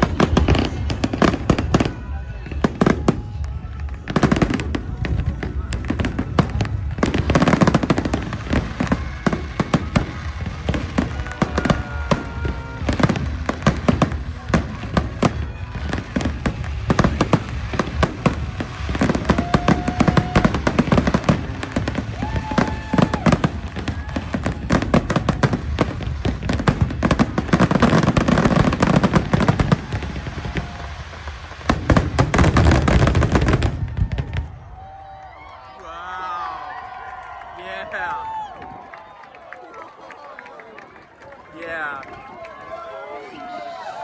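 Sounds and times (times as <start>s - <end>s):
fireworks bangs and crackling: 0.0s - 35.5s.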